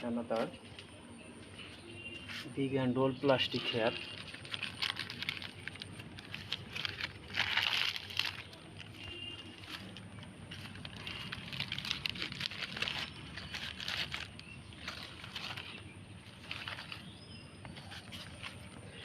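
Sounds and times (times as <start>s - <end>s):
plastic crackling and crumpling: 3.2s - 19.0s.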